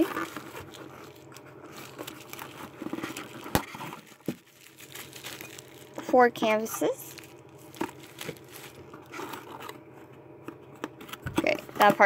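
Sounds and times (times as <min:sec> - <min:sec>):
cardboard rustling: 0:00.0 - 0:09.8
plastic wrapping crinkling: 0:00.0 - 0:09.8.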